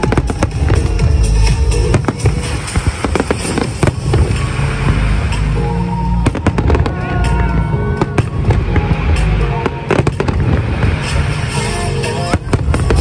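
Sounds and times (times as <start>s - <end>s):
deep rumble of fireworks: 0.0s - 13.0s
fireworks bangs: 0.0s - 13.0s
music playing: 0.0s - 13.0s.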